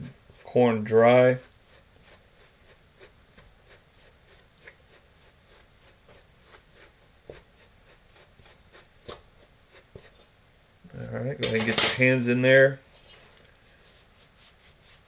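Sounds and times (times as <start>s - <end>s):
hand stirring dry mix in bowl: 0.0s - 10.3s, 11.6s - 15.0s.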